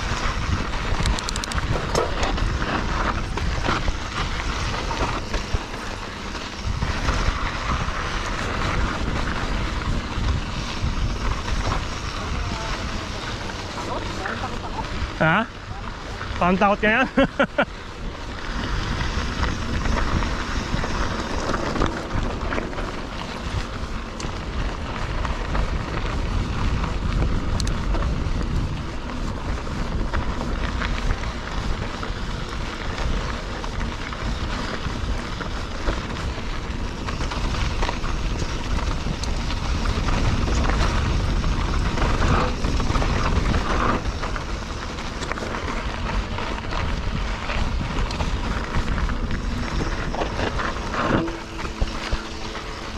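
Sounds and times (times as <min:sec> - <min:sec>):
bike rattling and clicking: 0:00.0 - 0:52.9
bike tyres rumbling on dirt: 0:00.0 - 0:52.9
wind on microphone: 0:00.0 - 0:52.9.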